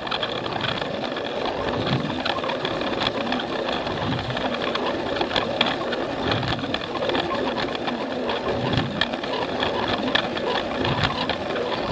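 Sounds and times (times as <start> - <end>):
clicks and rattles of wheels on track: 0.0 - 11.9.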